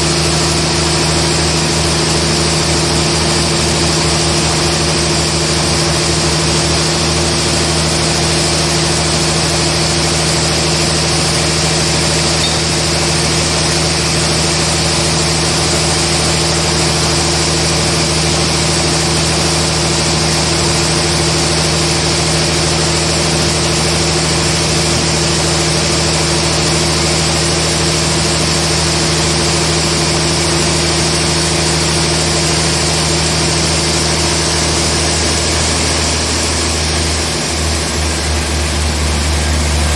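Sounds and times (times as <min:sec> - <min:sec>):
sawmill motor humming: 0:00.0 - 0:39.9.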